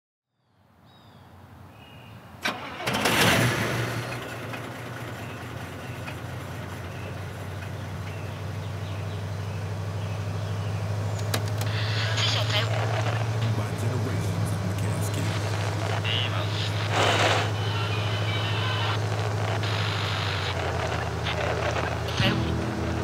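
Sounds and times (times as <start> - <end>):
car engine starting and running: 2.4 - 23.0.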